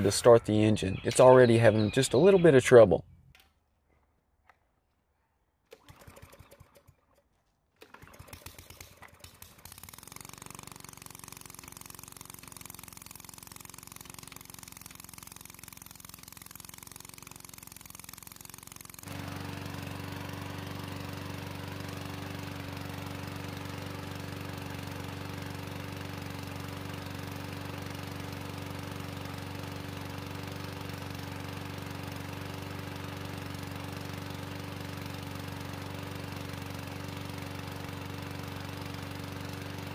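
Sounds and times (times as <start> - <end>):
lawn mower engine running: 0.0 - 3.0, 5.6 - 39.9
lawn mower pull-start: 5.6 - 39.9.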